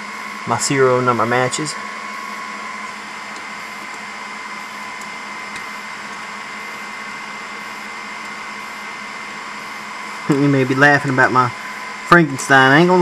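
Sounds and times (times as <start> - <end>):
computer cooling fans whirring: 0.0 - 13.0.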